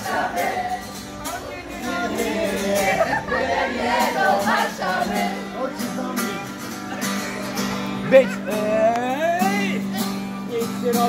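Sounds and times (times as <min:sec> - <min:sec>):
acoustic guitar: 0:00.0 - 0:11.0
crowd singing and calling out: 0:00.0 - 0:11.0.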